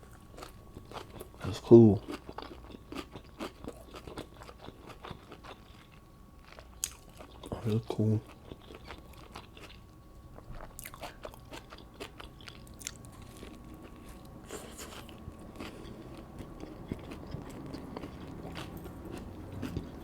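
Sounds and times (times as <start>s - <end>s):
person chewing sandwich: 0.0s - 20.0s.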